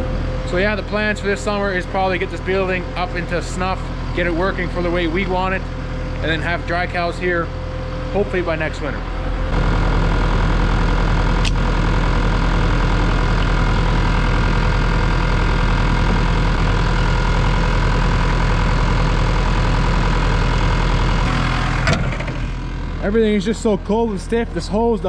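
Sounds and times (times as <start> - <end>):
deep engine-like hum: 0.0 - 25.0
electric fuel pump running: 0.0 - 25.0.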